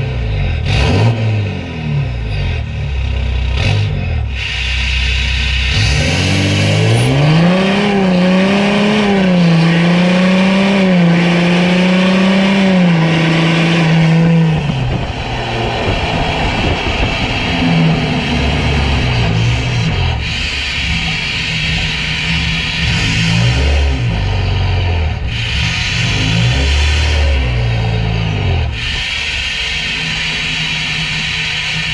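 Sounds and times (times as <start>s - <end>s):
diesel engine revving: 0.0s - 31.9s.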